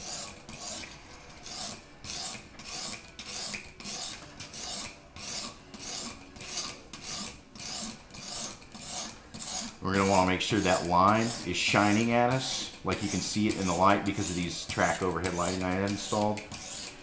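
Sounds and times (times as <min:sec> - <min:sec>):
whetstone rasping on knife blade: 0:00.0 - 0:17.0.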